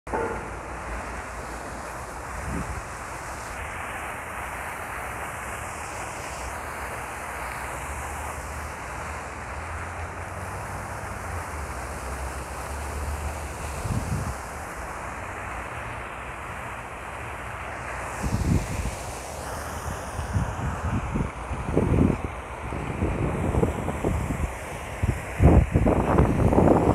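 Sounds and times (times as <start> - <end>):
wind rumble on microphone: 0.1 - 6.7, 7.8 - 16.2, 17.6 - 26.9
fountain water splashing: 0.1 - 26.9.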